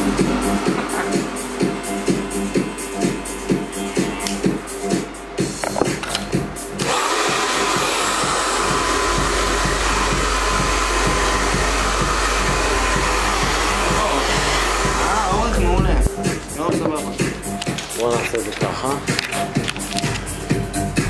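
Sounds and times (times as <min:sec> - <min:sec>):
hair dryer blowing: 0:00.0 - 0:18.2
background music with beat: 0:00.0 - 0:21.0.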